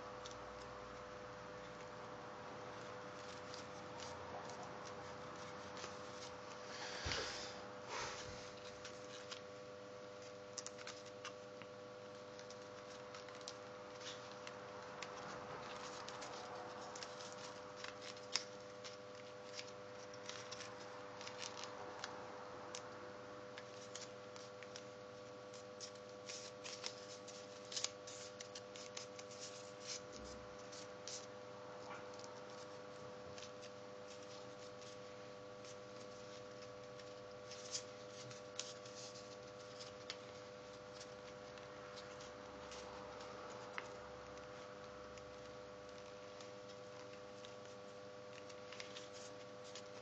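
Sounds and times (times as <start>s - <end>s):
electrical hum: 0.0s - 50.0s
paper crinkling: 0.1s - 50.0s.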